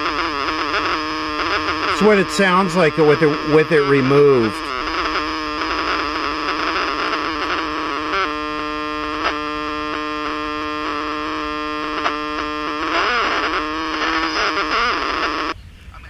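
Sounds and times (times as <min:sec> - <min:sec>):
radio clicks: 0:00.0 - 0:15.6
steady buzzing tone: 0:00.0 - 0:15.6
radio static and hiss: 0:00.0 - 0:16.0.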